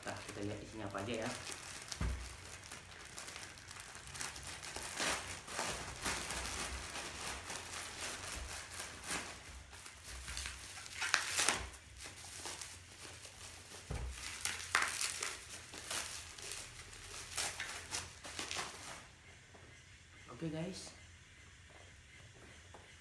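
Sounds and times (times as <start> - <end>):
plastic bag crinkling: 0.0 - 19.1.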